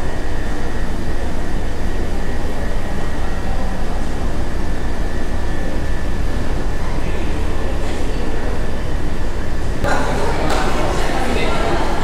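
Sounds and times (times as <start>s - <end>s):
constant high whine: 0.0s - 12.0s
low mechanical rumble: 0.0s - 12.0s.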